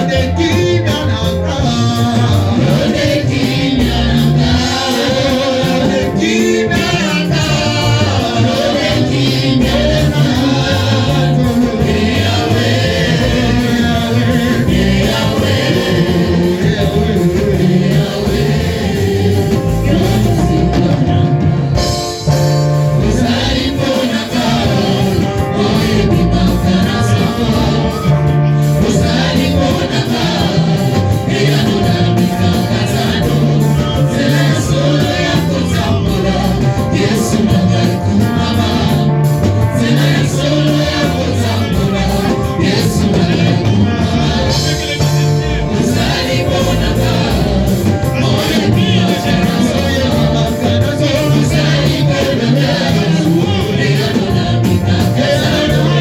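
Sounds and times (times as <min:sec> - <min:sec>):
bass line: 0:00.0 - 0:56.0
choir singing: 0:00.0 - 0:56.0
steady drum beat: 0:00.0 - 0:56.0.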